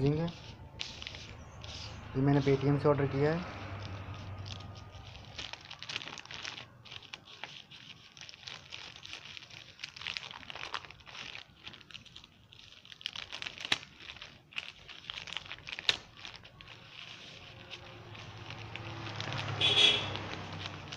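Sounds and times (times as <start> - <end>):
plastic mailer bag crinkling: 0.0 - 20.9.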